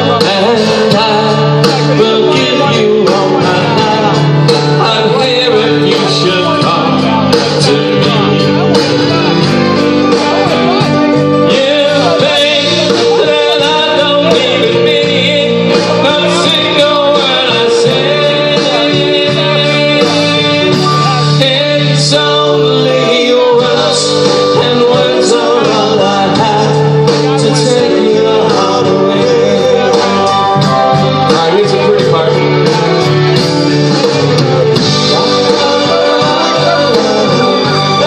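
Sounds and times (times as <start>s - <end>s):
drum kit with cymbals: 0.0s - 38.0s
electric guitar: 0.0s - 38.0s
keyboards: 0.0s - 38.0s.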